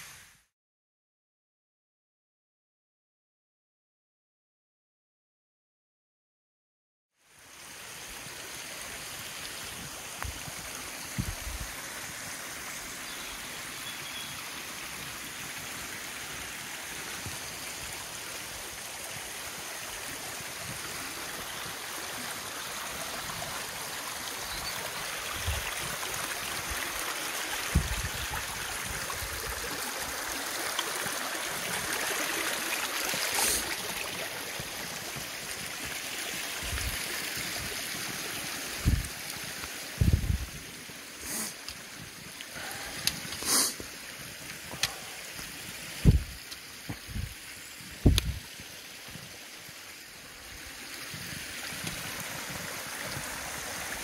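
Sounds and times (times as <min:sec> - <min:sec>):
stream running over rocks: 0:07.2 - 0:54.0.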